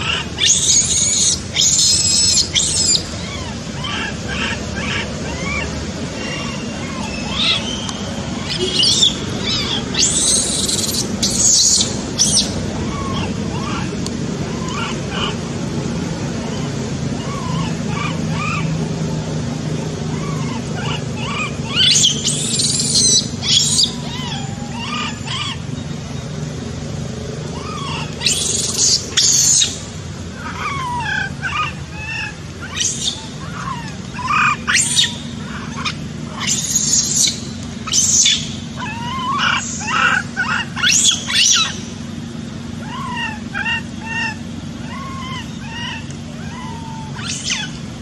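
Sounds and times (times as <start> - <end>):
baby monkey squealing and screaming: 0.0 - 15.4, 16.4 - 18.8, 20.0 - 25.6, 27.6 - 42.0, 42.8 - 47.8
low background rumble: 0.0 - 48.0.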